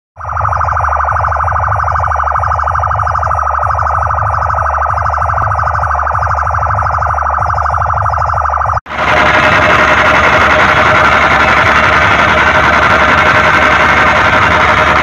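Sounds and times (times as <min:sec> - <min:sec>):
loud electronic music: 0:00.2 - 0:15.0
rapidly pulsing electronic tone: 0:00.2 - 0:15.0
heavy bass beat: 0:00.5 - 0:15.0.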